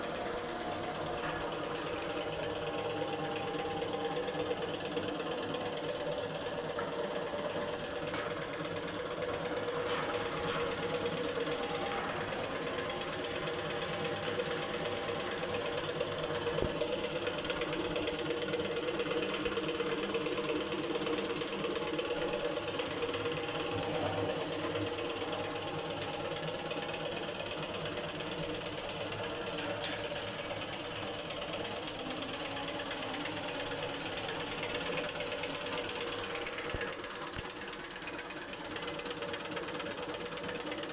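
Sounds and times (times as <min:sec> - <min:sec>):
machine humming with hiss: 0:00.0 - 0:40.9.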